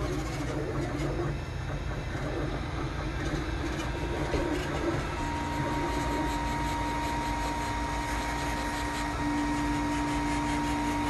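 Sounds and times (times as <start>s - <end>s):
fan hum: 0.0s - 11.0s.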